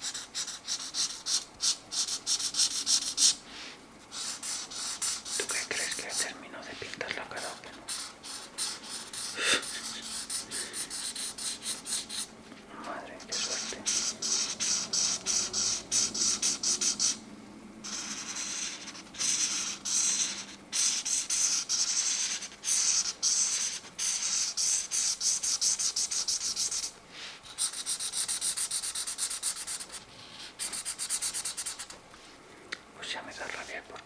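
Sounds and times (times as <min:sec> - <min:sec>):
marker scratching on paper: 0:00.0 - 0:12.4, 0:13.2 - 0:17.2, 0:17.8 - 0:32.3, 0:33.2 - 0:33.8.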